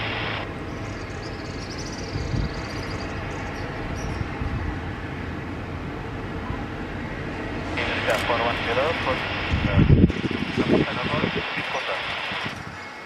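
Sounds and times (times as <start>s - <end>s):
faint high whine: 0.0s - 13.0s
jet engines rumbling: 0.0s - 13.0s.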